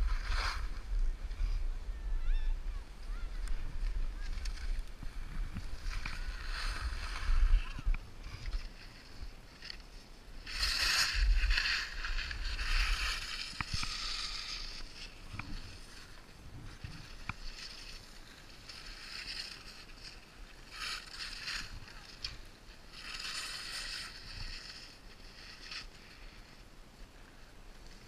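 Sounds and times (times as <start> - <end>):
skis scraping over snow: 0.0 - 1.8, 2.8 - 28.0.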